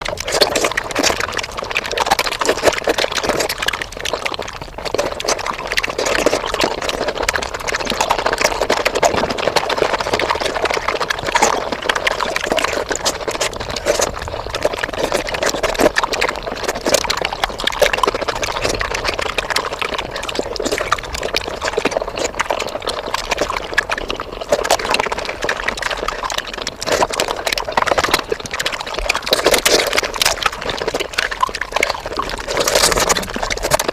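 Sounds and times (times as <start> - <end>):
sped up chewing and mouth noises: 0.0 - 33.9.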